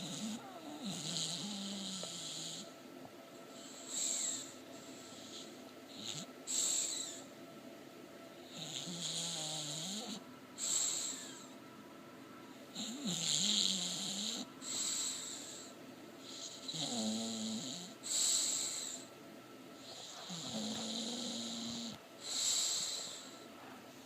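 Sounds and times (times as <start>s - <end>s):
dog snoring: 0.0s - 2.8s, 3.6s - 7.2s, 8.4s - 11.5s, 12.7s - 19.1s, 19.8s - 23.4s.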